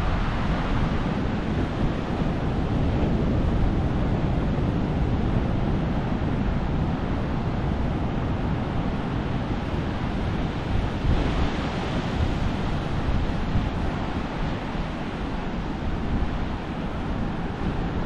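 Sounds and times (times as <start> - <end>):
ocean surf on beach: 0.0 - 18.0
wind noise on microphone: 0.0 - 18.0.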